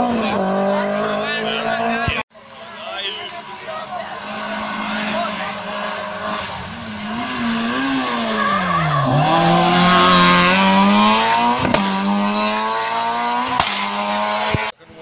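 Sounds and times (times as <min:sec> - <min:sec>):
rally car engine revving: 0:00.0 - 0:02.2, 0:03.5 - 0:14.8.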